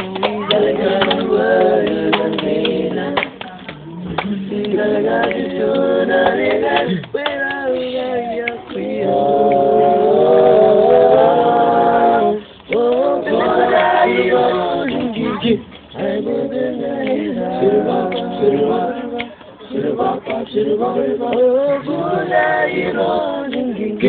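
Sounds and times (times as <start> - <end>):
group singing in harmony: 0.0 - 24.0.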